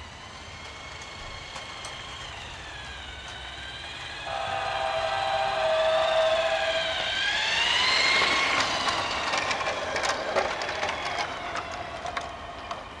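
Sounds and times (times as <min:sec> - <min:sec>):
toy train motor whine: 0:00.0 - 0:13.0
wheels clicking on rails: 0:00.0 - 0:13.0.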